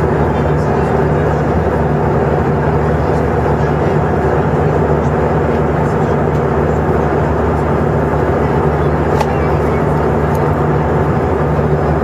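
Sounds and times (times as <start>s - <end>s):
airplane cabin airflow rushing: 0.0s - 12.0s
steady low hum: 0.0s - 12.0s.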